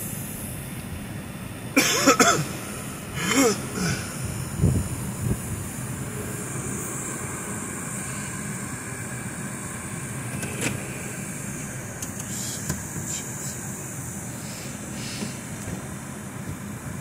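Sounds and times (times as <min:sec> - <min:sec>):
car engine rumbling inside cabin: 0:00.0 - 0:17.0.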